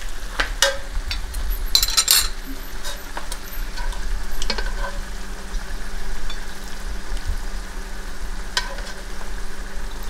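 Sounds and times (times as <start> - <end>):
low hum: 0.0 - 10.0
steady hiss: 0.0 - 10.0.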